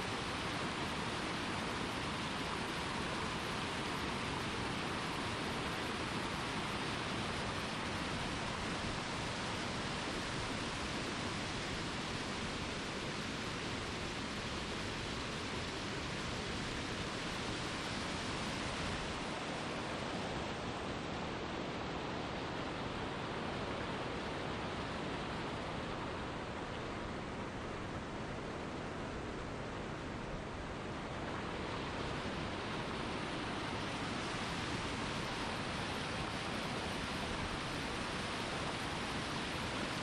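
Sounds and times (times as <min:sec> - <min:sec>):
stream flowing over rocks: 0:00.0 - 0:40.0.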